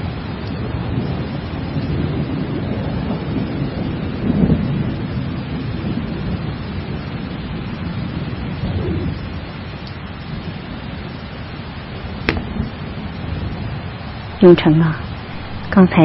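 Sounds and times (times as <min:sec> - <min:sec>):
low rolling thunder: 0:00.0 - 0:16.0
steady rain: 0:00.0 - 0:16.0.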